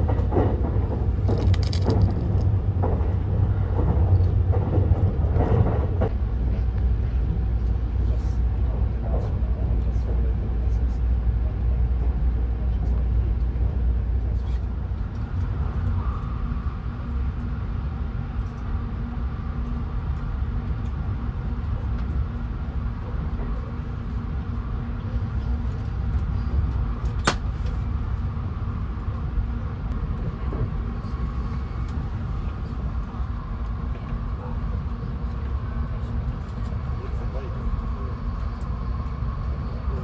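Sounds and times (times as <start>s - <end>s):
train cabin rumble: 0.0s - 40.0s.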